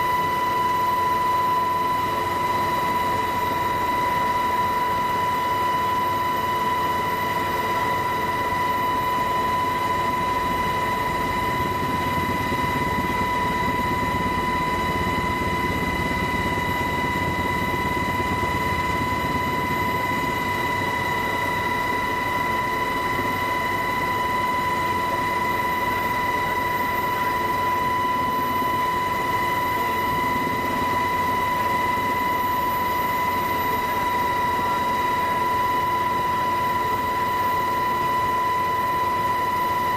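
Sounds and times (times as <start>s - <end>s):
aircraft engine whine: 0.0s - 39.9s.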